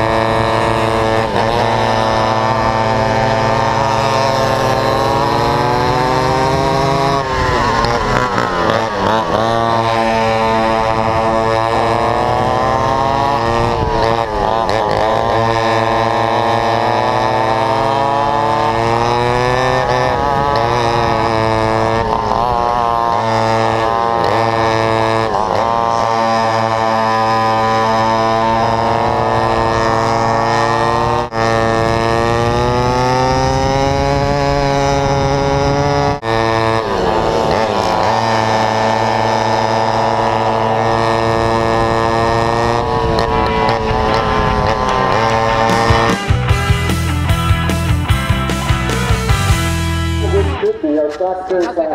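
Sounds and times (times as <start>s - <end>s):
go-kart engine racing: 0.0s - 51.9s
other kart engines: 0.0s - 51.9s.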